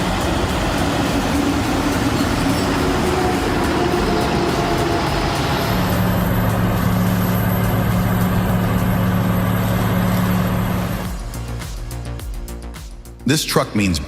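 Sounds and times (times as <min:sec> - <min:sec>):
truck engine humming: 0:00.0 - 0:12.1.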